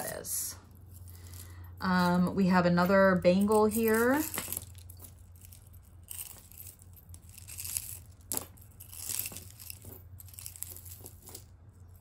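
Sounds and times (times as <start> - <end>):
hands rustling through jewelry: 0.0 - 12.0.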